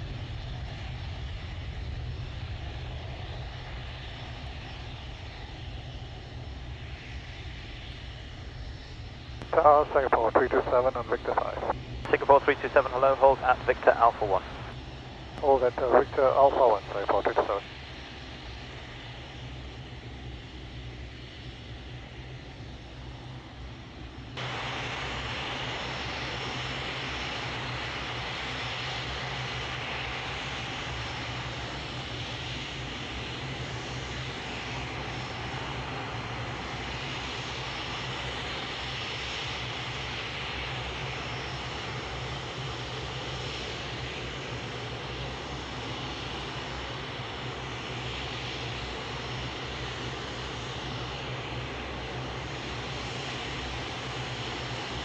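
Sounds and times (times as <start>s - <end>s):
airliner engines running: 0.0s - 55.0s.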